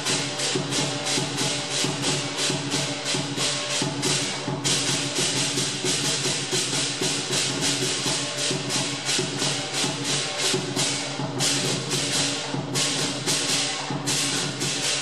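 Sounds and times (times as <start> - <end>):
cymbals clashing: 0.0 - 15.0
drum beating: 0.0 - 15.0
gong: 0.0 - 15.0.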